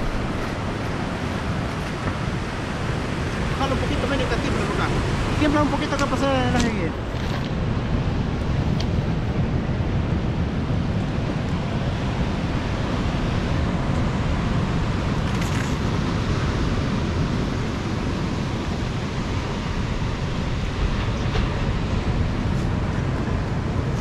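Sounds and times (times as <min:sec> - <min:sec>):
surf washing on beach: 0:00.0 - 0:24.0
wind noise on microphone: 0:00.0 - 0:24.0.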